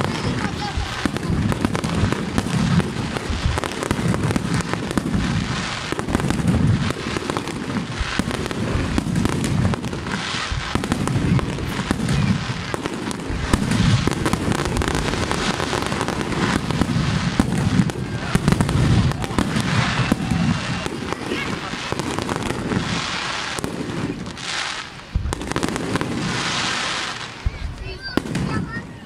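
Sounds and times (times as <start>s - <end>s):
fireworks booming: 0.0s - 29.0s
fireworks crackling: 0.0s - 29.0s.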